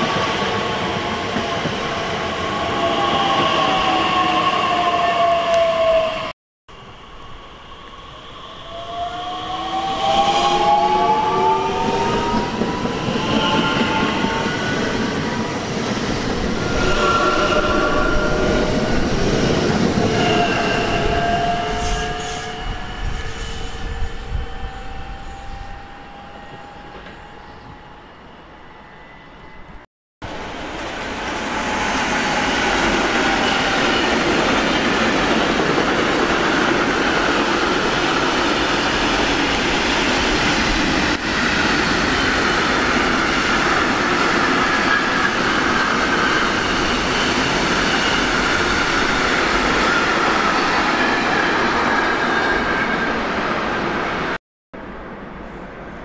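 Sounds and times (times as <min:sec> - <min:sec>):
train drives whining: 0:00.0 - 0:55.9
train running noise: 0:00.0 - 0:56.0.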